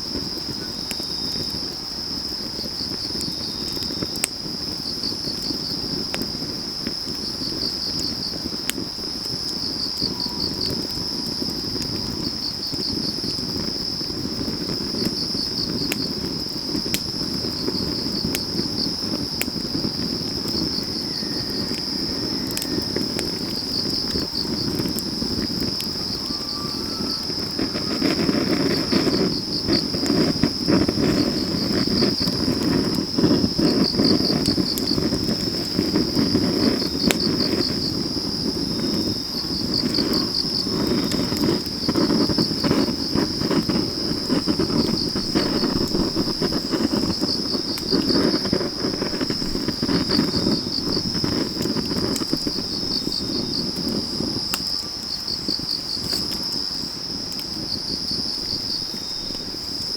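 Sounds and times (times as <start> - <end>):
crickets chirring: 0.0 - 59.9
wood fire crackling and popping: 0.0 - 59.9.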